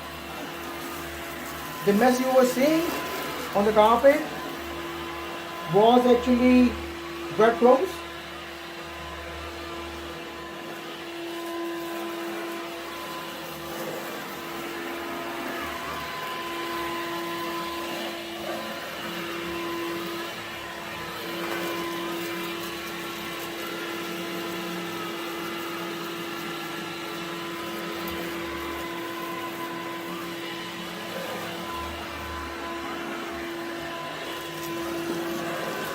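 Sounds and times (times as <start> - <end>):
stick vacuum cleaner humming: 0.0 - 35.9.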